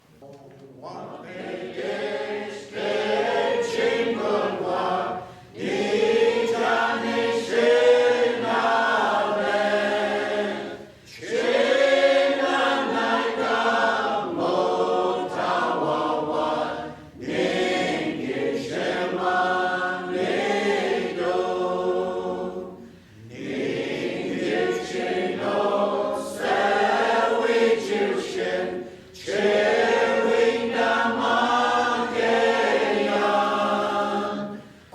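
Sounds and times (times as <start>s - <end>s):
choir singing a hymn: 1.0s - 34.9s.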